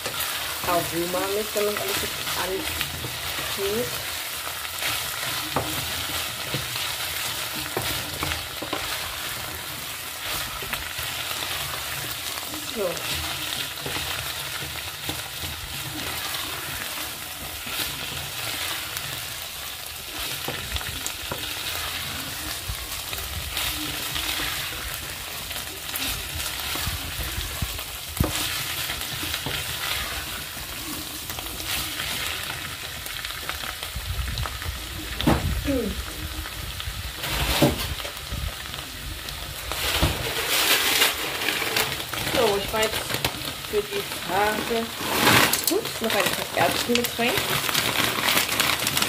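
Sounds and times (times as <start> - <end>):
wooden spoon scraping a pot: 0.0 - 33.8, 39.7 - 49.0
vegetables sizzling in a pot: 0.0 - 49.0.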